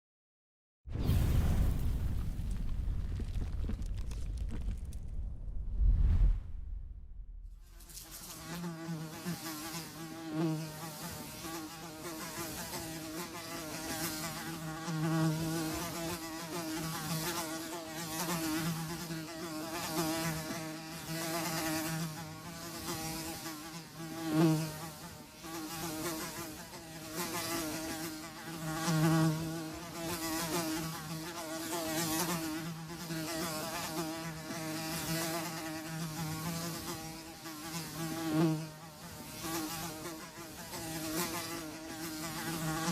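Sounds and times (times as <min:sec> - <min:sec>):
flies buzzing: 0:07.6 - 0:42.9.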